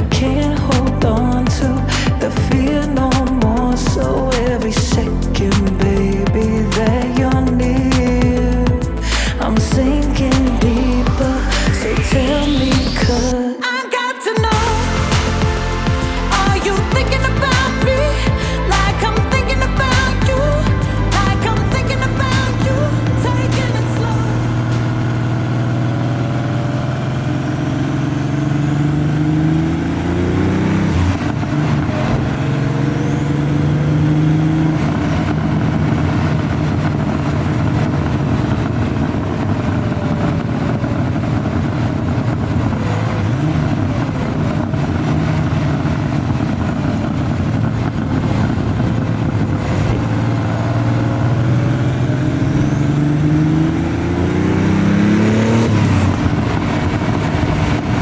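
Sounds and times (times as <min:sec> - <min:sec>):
car engine accelerating: 0:00.0 - 0:13.4, 0:14.5 - 0:58.0.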